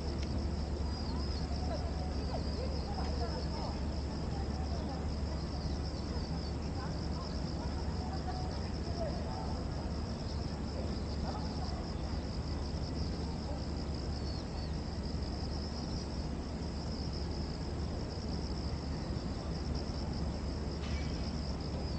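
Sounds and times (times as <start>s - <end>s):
cicadas singing: 0.0s - 21.9s.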